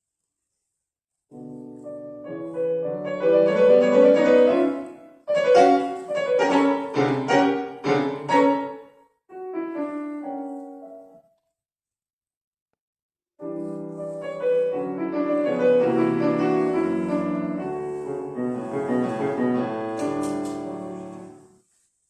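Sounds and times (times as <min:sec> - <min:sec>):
solo piano: 0:01.3 - 0:11.4, 0:13.4 - 0:21.7.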